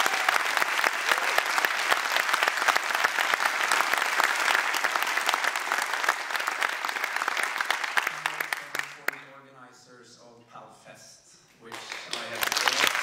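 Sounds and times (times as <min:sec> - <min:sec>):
audience applauding: 0:00.0 - 0:09.2, 0:11.7 - 0:13.0.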